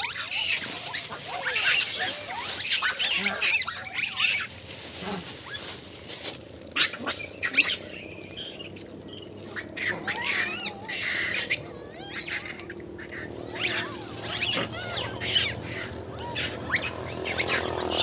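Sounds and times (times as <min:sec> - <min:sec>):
monkeys squealing and screeching: 0:00.0 - 0:05.7, 0:06.7 - 0:18.0.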